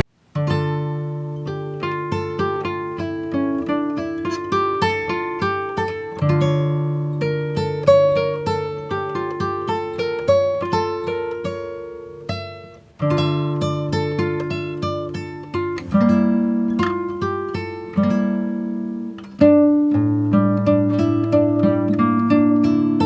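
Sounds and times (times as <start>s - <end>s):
acoustic guitar picking and strumming: 0.0s - 23.0s.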